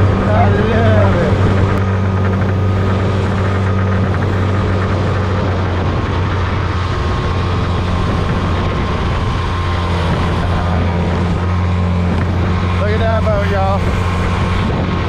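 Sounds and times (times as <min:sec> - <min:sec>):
outboard motor humming: 0:00.0 - 0:15.0
wind rushing: 0:00.0 - 0:15.0.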